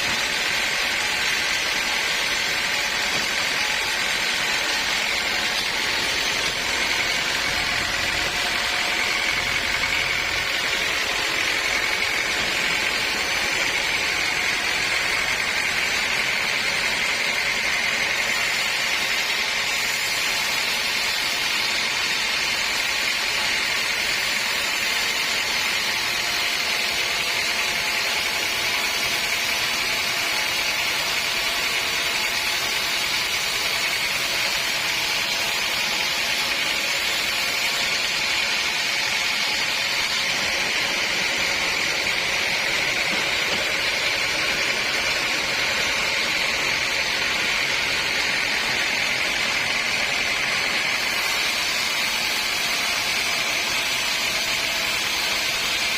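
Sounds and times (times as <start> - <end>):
sawmill saw running: 0.0 - 55.9.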